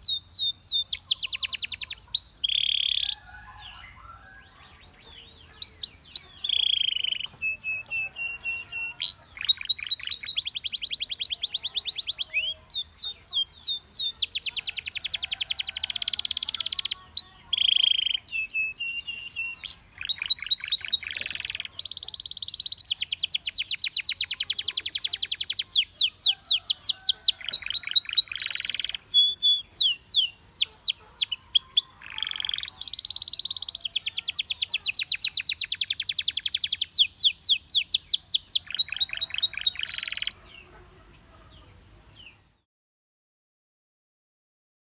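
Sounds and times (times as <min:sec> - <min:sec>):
canary singing trills: 0:00.0 - 0:42.4.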